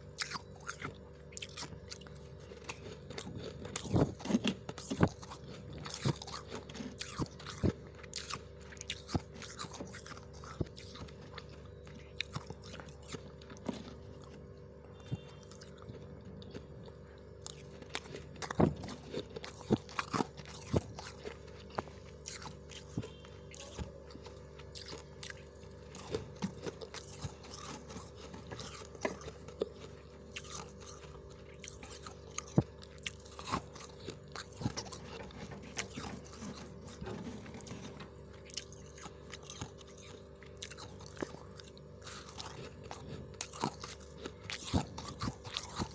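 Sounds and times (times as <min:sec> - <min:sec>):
frost crunching while chewed: 0:00.0 - 0:45.9
steady low hum: 0:00.0 - 0:45.9.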